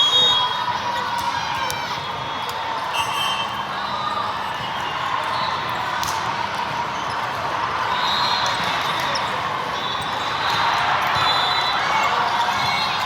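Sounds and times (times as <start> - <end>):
echoing crowd hubbub: 0.0 - 13.0.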